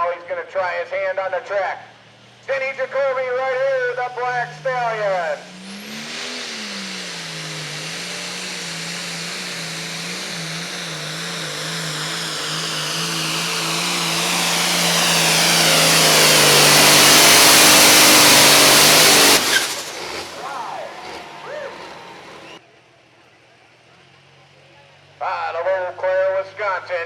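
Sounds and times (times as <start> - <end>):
diesel tractor engine at full throttle: 0.9 - 22.6.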